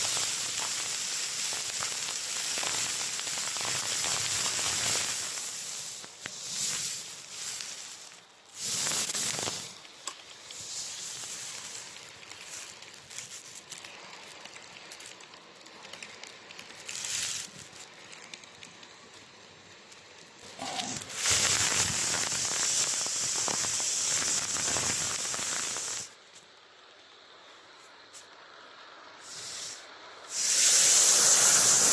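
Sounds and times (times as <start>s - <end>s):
model train rattling on track: 0.0s - 27.2s, 30.3s - 31.9s.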